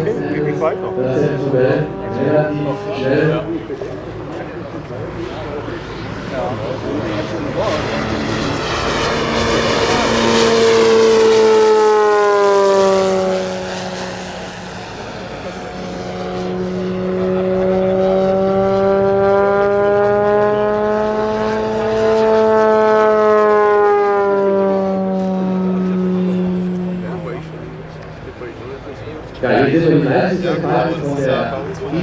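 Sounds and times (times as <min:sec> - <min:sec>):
model plane motor droning: 0:00.0 - 0:29.4.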